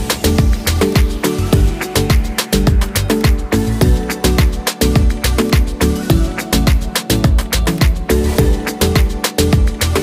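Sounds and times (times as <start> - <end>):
upbeat drum beat and bass: 0.0 - 10.0.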